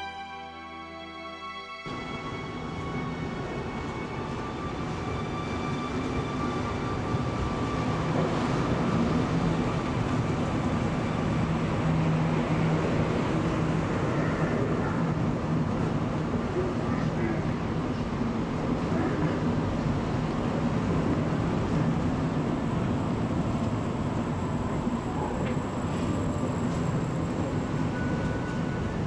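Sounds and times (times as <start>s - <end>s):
electric train arriving: 0.0s - 29.0s.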